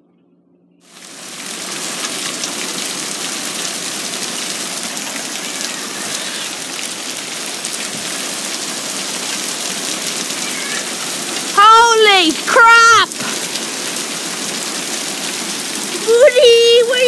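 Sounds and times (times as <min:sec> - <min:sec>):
heavy rain pouring: 0:00.9 - 0:17.0.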